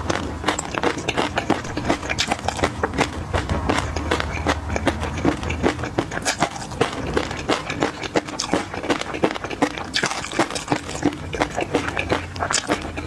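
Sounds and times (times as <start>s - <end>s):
crunchy chewing with mouth closed: 0.0s - 13.0s.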